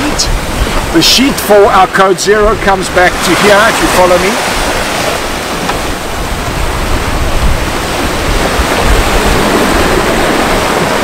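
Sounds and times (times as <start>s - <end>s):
ocean waves rushing: 0.0s - 11.0s
wind buffeting microphone: 0.0s - 11.0s.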